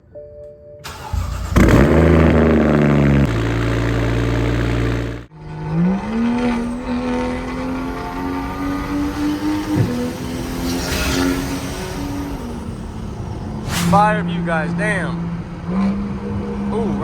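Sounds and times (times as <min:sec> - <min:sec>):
car engine starting and idling: 0:00.8 - 0:17.0
engine pulling under way: 0:00.8 - 0:17.0.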